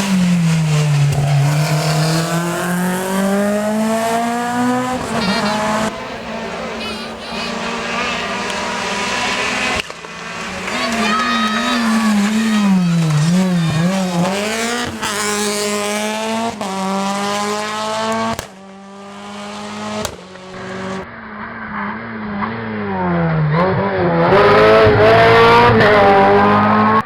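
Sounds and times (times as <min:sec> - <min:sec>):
car accelerating: 0:00.0 - 0:27.0
race car engines revving: 0:00.0 - 0:27.0.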